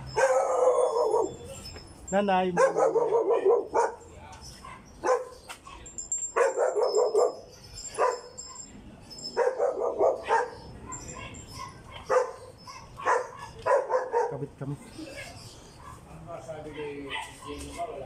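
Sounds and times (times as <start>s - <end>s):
dog barking: 0.1s - 1.4s, 2.6s - 8.4s, 9.4s - 14.5s, 15.2s - 17.7s.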